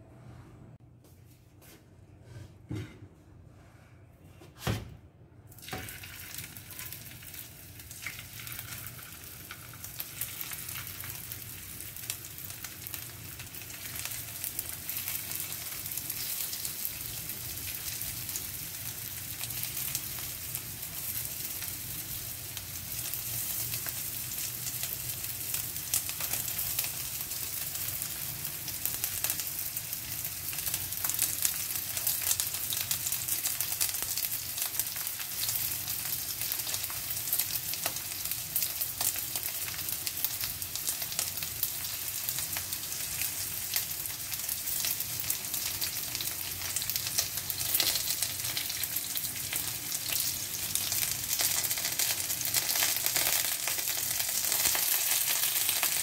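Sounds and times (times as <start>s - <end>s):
chicken sizzling in hot oil: 5.5s - 56.0s.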